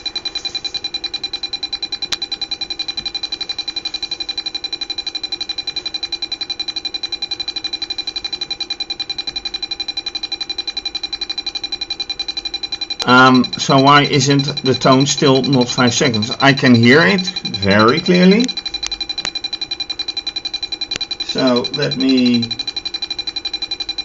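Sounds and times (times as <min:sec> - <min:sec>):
pulsing electronic tone: 0:00.0 - 0:24.0.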